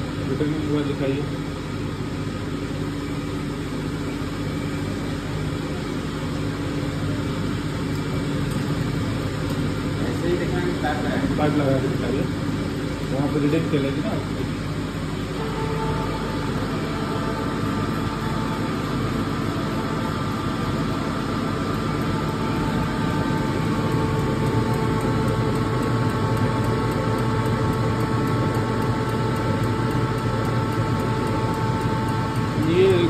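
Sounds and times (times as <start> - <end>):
steady whine: 0.0 - 33.0.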